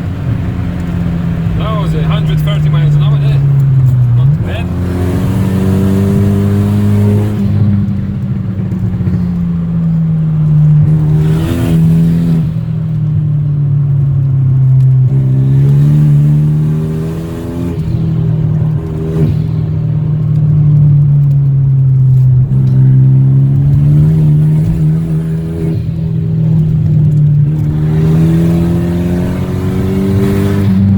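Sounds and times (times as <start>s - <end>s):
car engine running under way: 0.0s - 30.9s.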